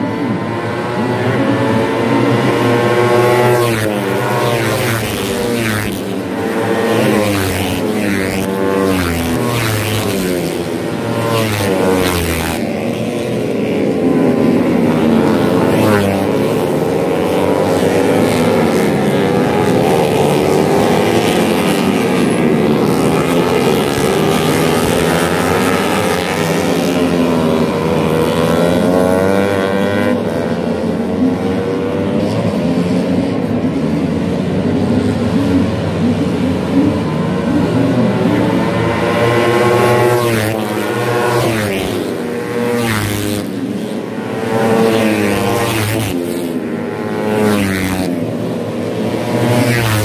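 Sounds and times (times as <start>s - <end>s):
racing motorcycles revving: 0.0s - 50.0s.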